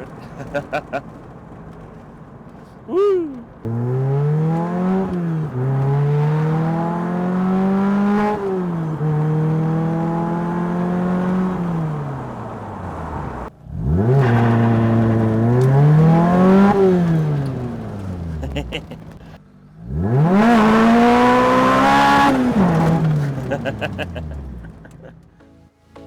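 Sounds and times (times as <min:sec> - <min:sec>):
car engine accelerating: 0:00.0 - 0:25.3.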